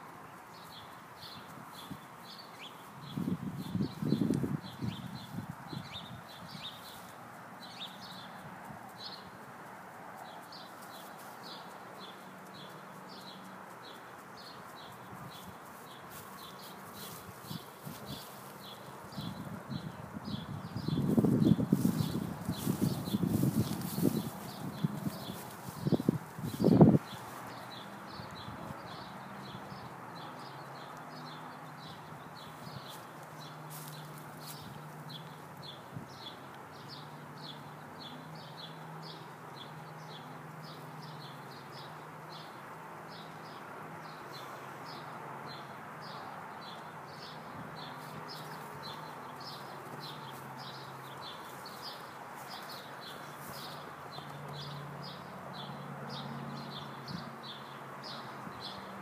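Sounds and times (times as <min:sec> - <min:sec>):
bird chirping: 0:00.3 - 0:09.5, 0:10.2 - 0:58.9.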